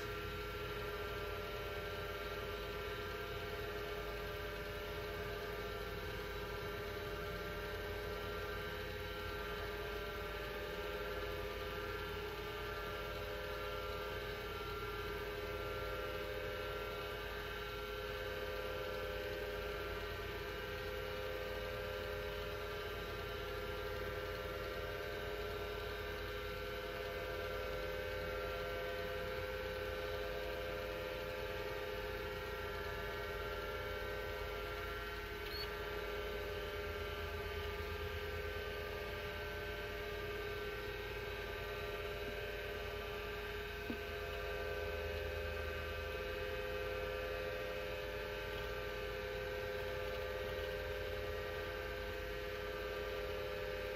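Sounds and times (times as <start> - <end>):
hard disk drive humming: 0.0 - 53.9.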